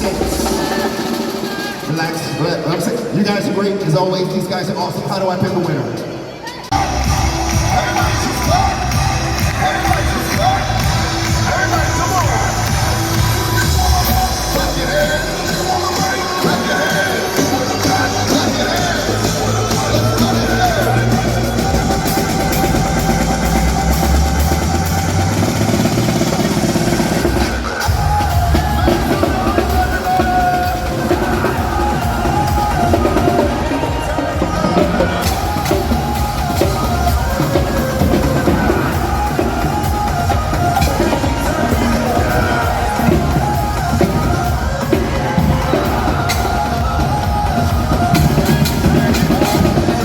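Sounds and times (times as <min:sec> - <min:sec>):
loud percussion music with bass: 0:00.0 - 0:50.0.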